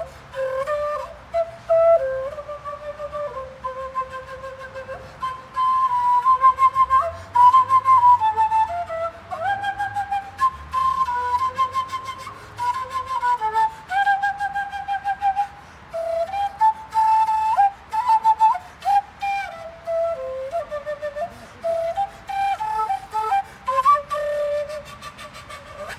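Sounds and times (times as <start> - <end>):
wooden flute melody: 0.0 - 25.9.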